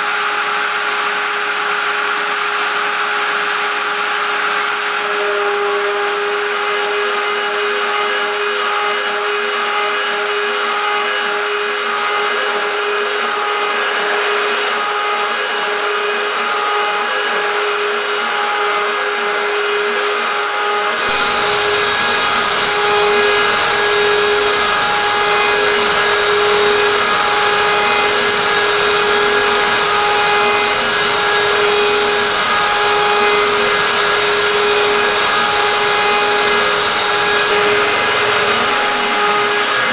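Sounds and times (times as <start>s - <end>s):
router spindle whining: 0.0s - 39.9s
end mill cutting metal: 2.7s - 39.9s.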